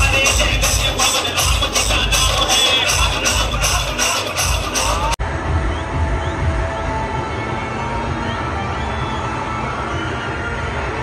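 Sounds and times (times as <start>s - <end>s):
crowd din: 0.0s - 11.0s
loud music: 0.0s - 11.0s.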